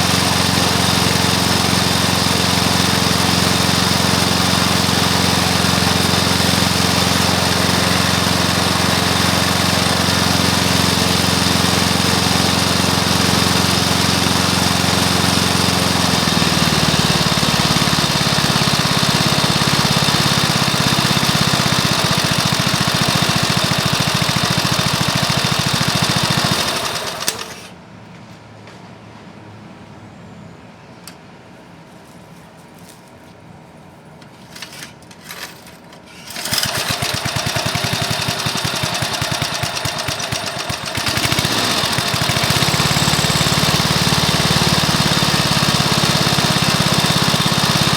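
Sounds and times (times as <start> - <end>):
lawn mower engine running: 0.0 - 27.8, 34.3 - 47.9.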